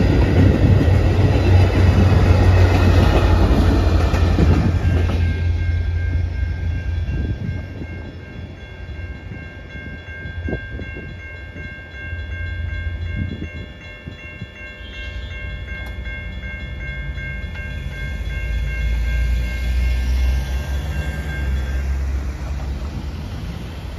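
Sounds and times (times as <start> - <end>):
railroad crossing bell ringing: 0.0 - 23.9.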